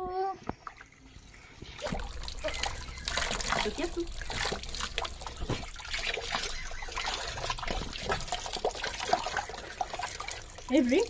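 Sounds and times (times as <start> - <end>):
water trickling and splashing: 0.4 - 11.0.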